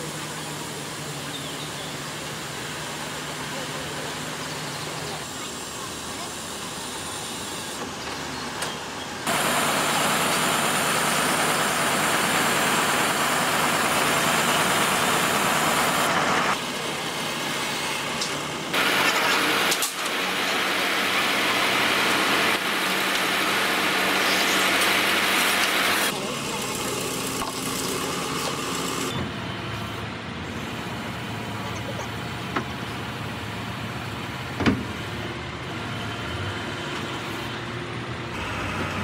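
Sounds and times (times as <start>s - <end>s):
machine engine and hydraulics running: 0.0s - 39.0s.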